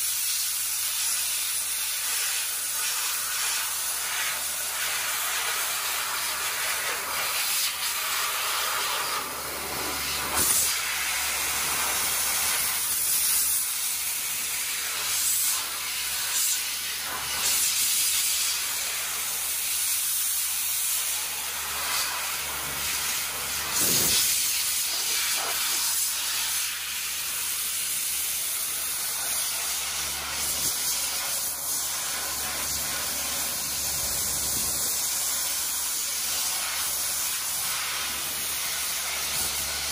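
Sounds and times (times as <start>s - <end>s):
dry ice blaster hissing: 0.0s - 39.9s.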